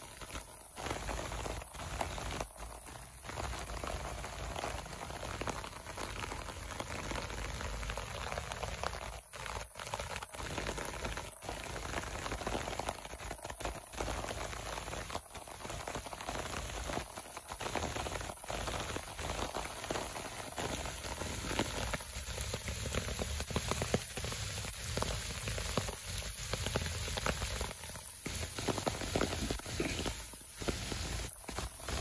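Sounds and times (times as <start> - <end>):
heavy rain on leaves and ground: 0.0 - 32.0.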